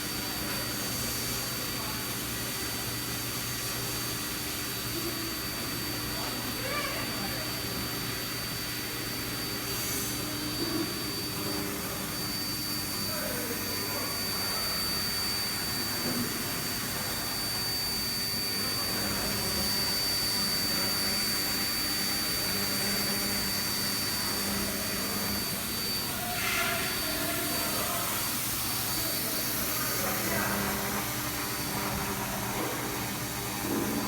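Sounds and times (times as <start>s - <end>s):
cnc router spindle whine: 0.0s - 34.0s.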